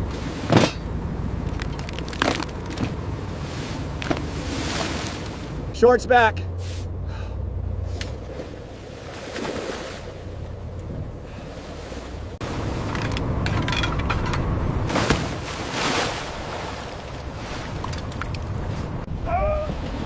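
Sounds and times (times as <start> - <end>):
boat engine running low: 0.0 - 20.0
sea wash: 0.0 - 20.0
wind: 0.0 - 20.0.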